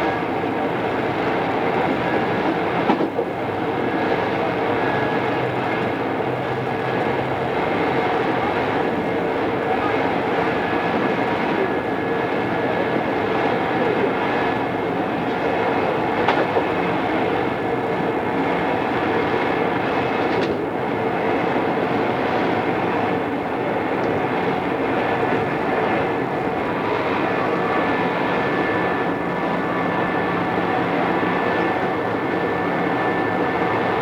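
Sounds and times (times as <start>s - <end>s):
train rolling noise: 0.0s - 34.0s.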